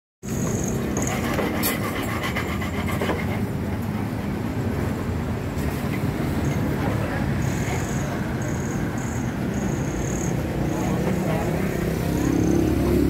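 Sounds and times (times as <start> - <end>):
street traffic noise: 0.2 - 13.0.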